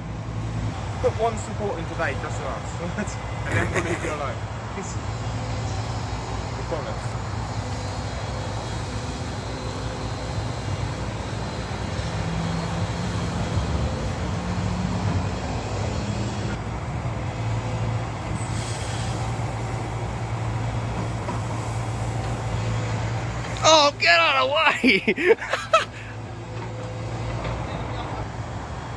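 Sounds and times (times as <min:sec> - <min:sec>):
diesel engine of heavy machinery: 0:00.0 - 0:23.9, 0:25.9 - 0:28.9.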